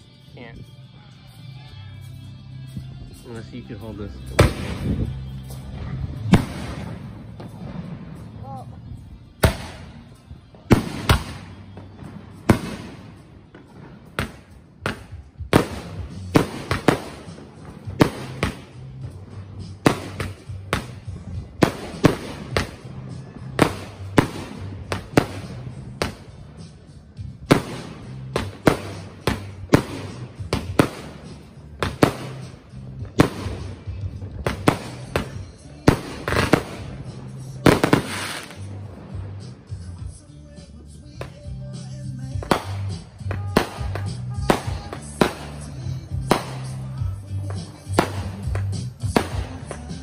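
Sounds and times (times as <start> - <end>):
fireworks firing sharp bangs: 4.2 - 40.1, 41.1 - 50.0.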